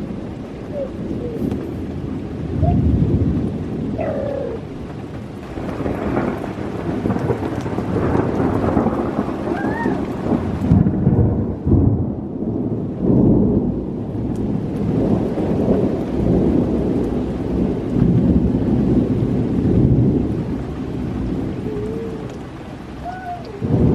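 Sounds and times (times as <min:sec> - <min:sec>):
steady rain: 0:00.0 - 0:23.9
thunder rumbling: 0:00.0 - 0:23.9.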